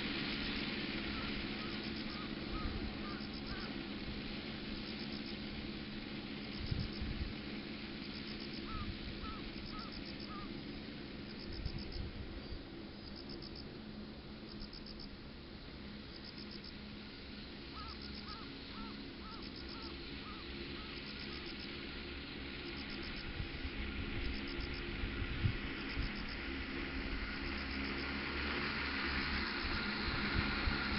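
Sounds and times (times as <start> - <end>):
drone rotors humming: 0.0 - 30.9
insect pulsing trills: 0.4 - 13.7, 14.5 - 15.2, 16.0 - 16.8, 17.6 - 30.9.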